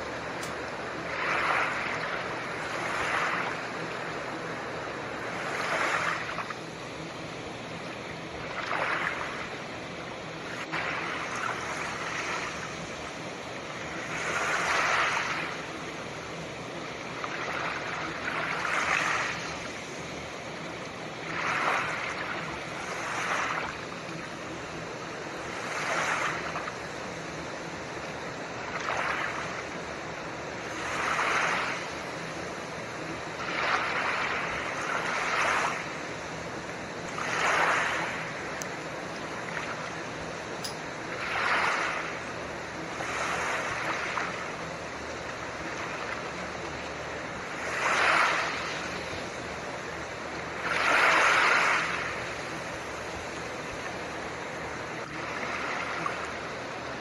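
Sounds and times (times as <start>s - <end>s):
ocean waves washing: 0.0s - 57.0s
steady hiss: 0.0s - 57.0s.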